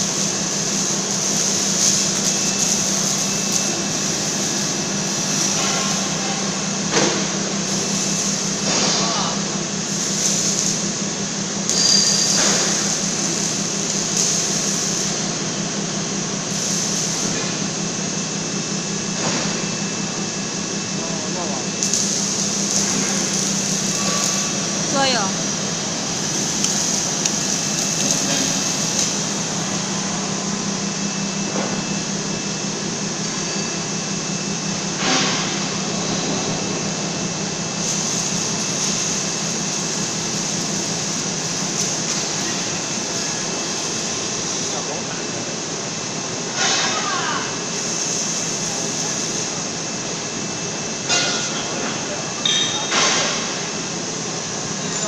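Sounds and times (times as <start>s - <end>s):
welding machine hum and hiss: 0.0s - 55.0s.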